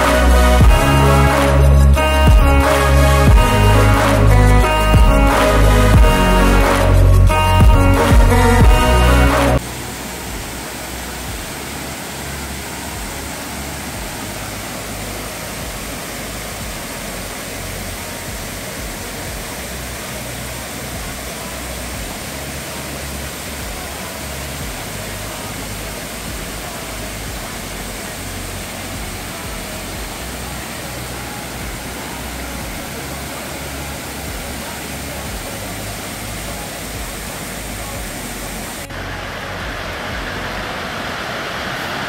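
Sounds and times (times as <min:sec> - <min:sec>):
rushing water: 0:00.0 - 0:42.0.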